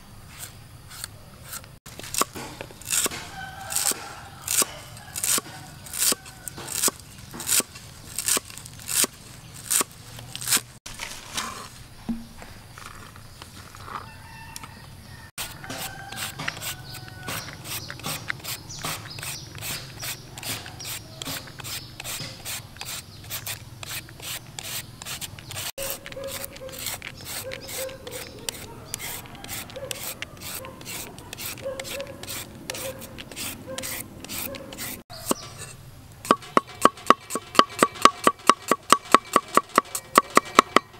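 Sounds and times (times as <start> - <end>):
peeler rasping on vegetable: 0.3 - 10.7, 15.4 - 40.9.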